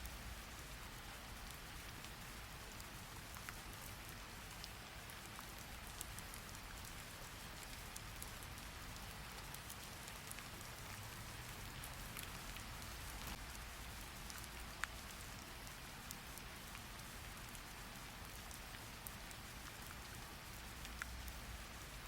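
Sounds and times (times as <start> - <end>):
raindrop ticks: 0.0 - 22.0
steady rain hiss: 0.0 - 22.0.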